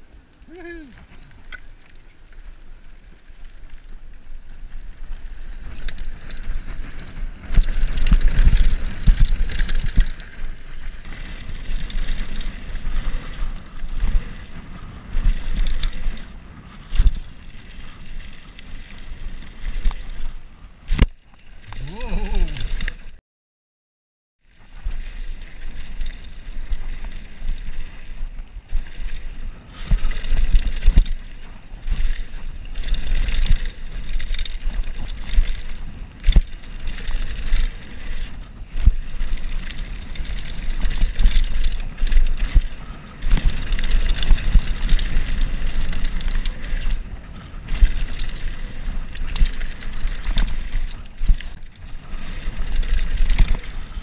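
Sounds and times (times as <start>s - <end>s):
bike rattling over bumps: 0.0s - 23.2s, 24.5s - 54.0s
bike tyres rumbling on gravel: 0.0s - 23.2s, 24.5s - 54.0s.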